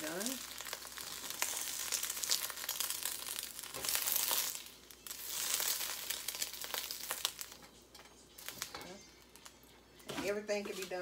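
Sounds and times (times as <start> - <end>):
oil sizzling in a wok: 0.0 - 9.6.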